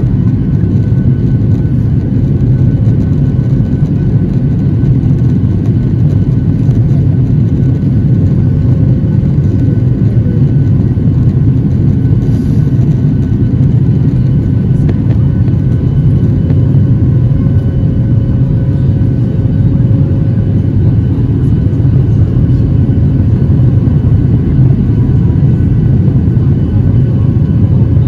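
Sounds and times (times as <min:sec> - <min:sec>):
deep jet engine rumble: 0:00.0 - 0:28.0
faint steady whine: 0:00.0 - 0:28.0.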